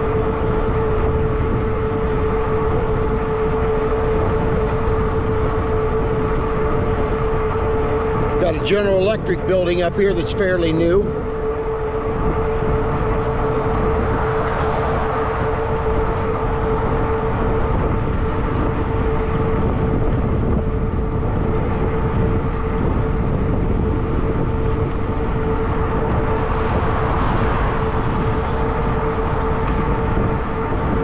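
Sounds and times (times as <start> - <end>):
electric motor whine: 0.0 - 31.0
tires rumbling on pavement: 0.0 - 31.0
wind buffeting microphone: 0.0 - 31.0.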